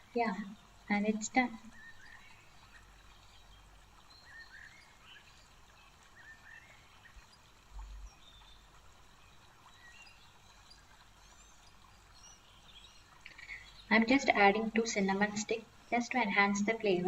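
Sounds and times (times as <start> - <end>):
faint bird chirps: 0.0 - 16.8.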